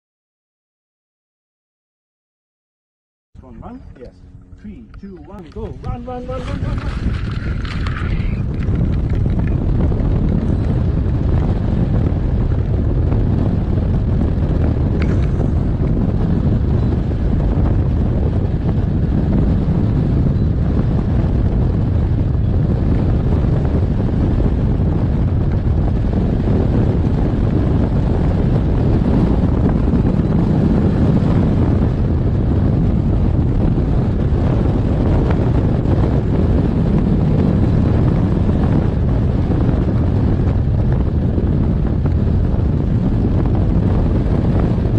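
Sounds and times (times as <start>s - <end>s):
wind rushing over microphone: 3.4s - 44.9s.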